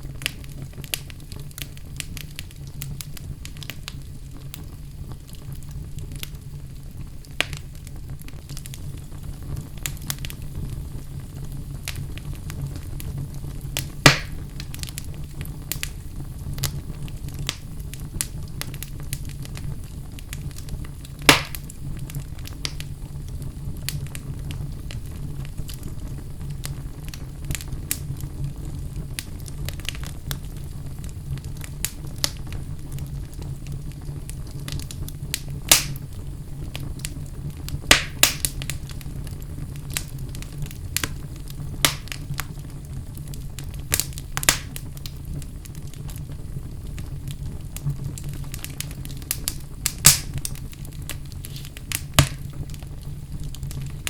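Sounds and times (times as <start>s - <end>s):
fire flames rumbling: 0.0s - 54.0s
wood fire crackles and pops: 0.0s - 54.0s.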